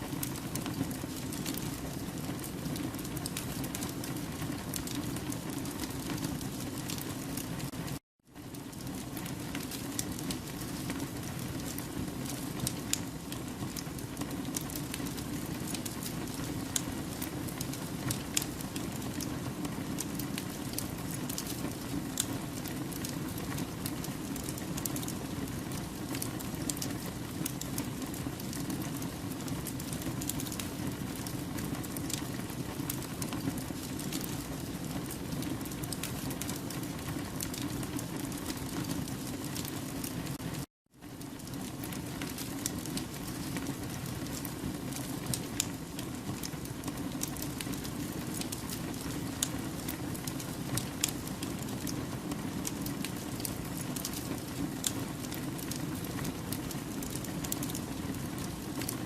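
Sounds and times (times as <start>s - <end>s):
wood fire burning: 0.0s - 59.0s
logs crackling and popping: 8.5s - 59.0s.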